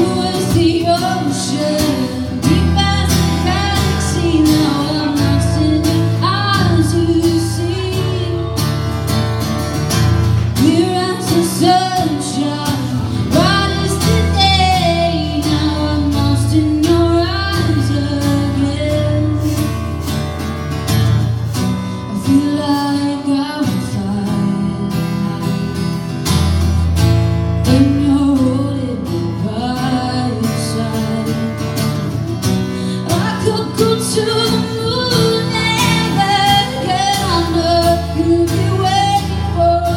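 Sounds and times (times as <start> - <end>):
woman singing: 0.0 - 9.2, 10.4 - 19.9, 22.0 - 26.0, 27.6 - 39.9
strummed acoustic guitars: 0.0 - 39.9.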